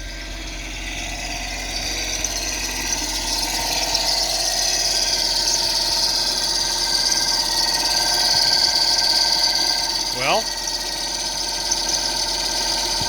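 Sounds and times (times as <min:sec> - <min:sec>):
car engine with grinding whine: 0:00.0 - 0:13.0.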